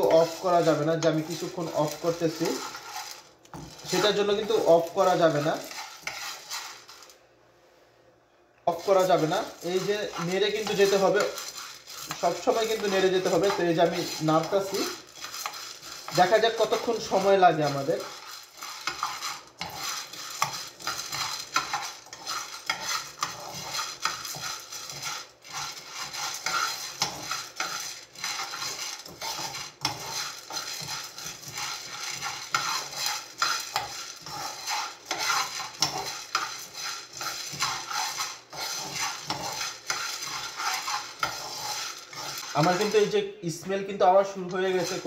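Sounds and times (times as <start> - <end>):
coffee beans rattling in pan: 0.0 - 7.2, 8.7 - 45.0.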